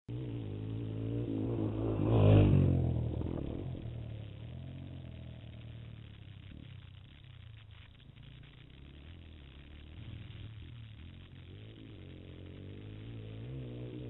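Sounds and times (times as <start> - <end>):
dirt bike engine passing: 0.1 - 6.8, 8.5 - 14.0.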